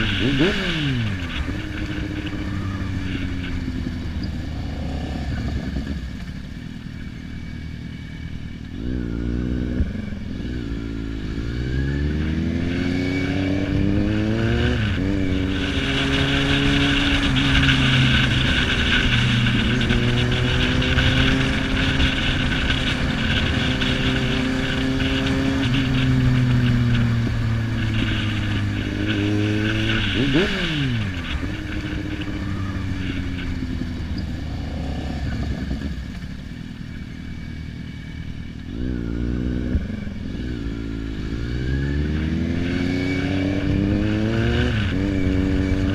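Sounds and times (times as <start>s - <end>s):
motorcycle engine: 0.0s - 45.9s
rushing wind: 0.0s - 45.9s.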